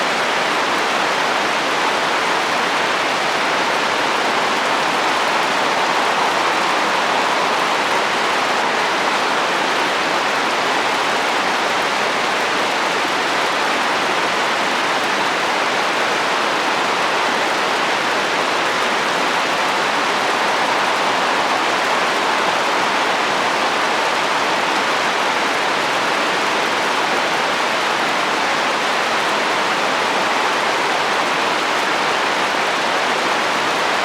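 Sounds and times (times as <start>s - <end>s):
rain on a roof: 0.0s - 34.0s
wind: 0.0s - 34.0s.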